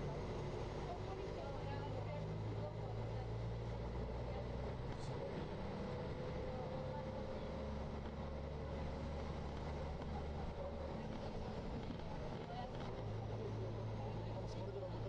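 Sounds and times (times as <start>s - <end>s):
vehicle driving on flooded street: 0.0s - 15.0s.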